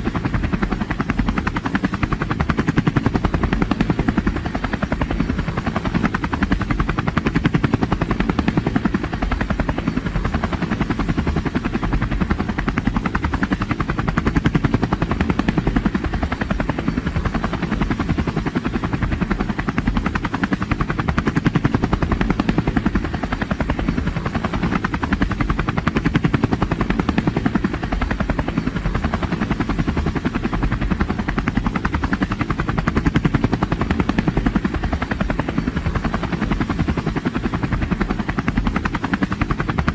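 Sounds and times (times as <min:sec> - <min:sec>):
helicopter engine noise: 0:00.0 - 0:39.9
helicopter rotor chopping: 0:00.0 - 0:39.9.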